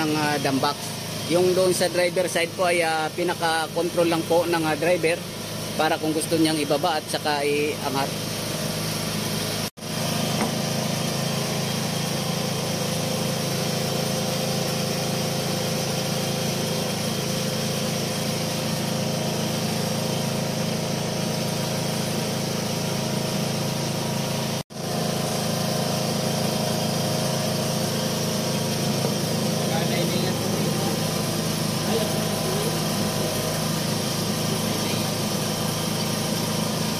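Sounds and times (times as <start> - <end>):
diesel engine idling: 0.0 - 8.8, 10.0 - 36.9.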